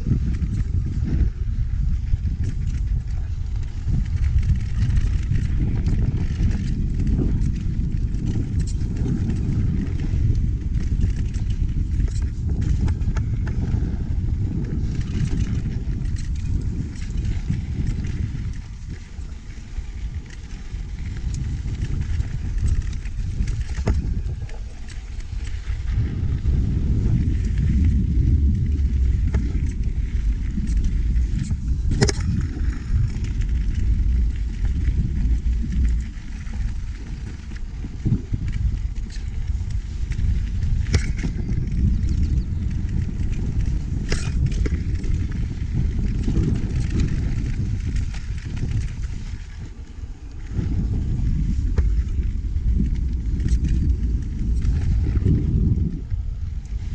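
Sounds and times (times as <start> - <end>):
stones and bike rattling: 0.0 - 56.9
wind buffeting microphone: 0.0 - 56.9
tyres crunching over dirt: 2.6 - 56.9.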